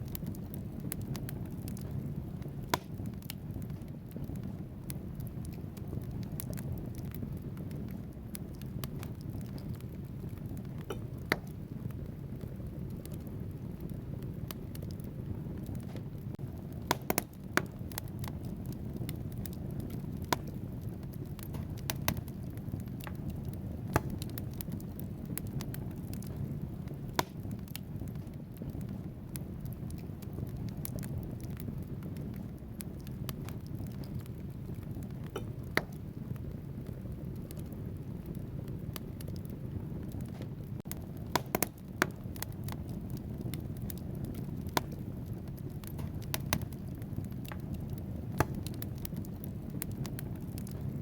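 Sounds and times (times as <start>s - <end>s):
burning logs crackling and popping: 0.0s - 51.0s
low rumble of flames: 0.0s - 51.0s.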